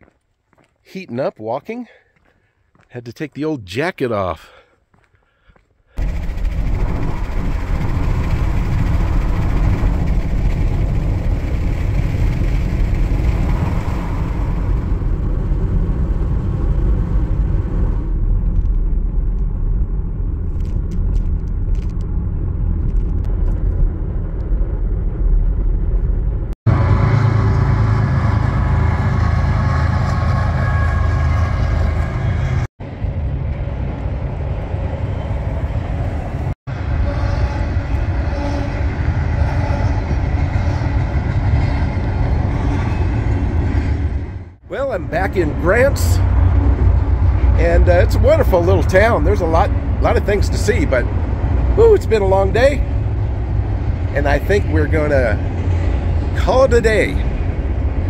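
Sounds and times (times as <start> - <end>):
car tyres and engine rumble: 4.9 - 58.0.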